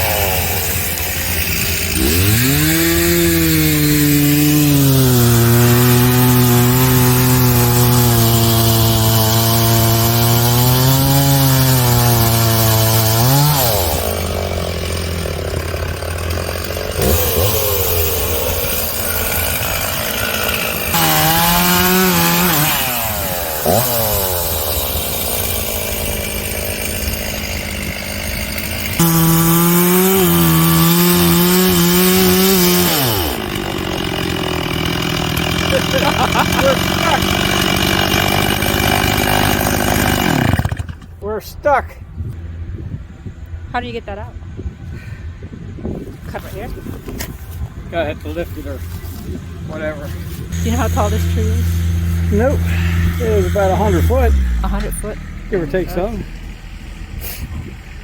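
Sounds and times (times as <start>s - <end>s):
chainsaw cutting wood: 0.0s - 41.2s, 46.5s - 58.0s.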